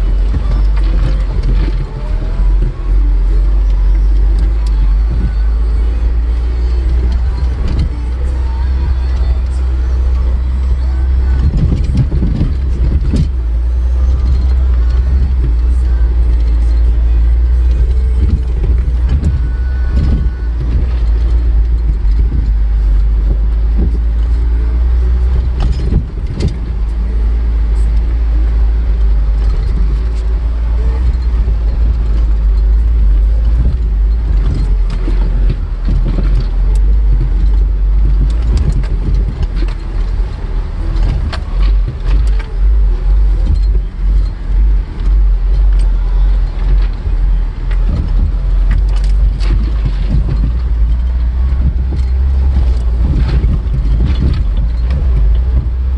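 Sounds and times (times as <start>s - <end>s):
knocks and rattles: 0.0s - 55.9s
vehicle engine rumble: 0.0s - 55.9s.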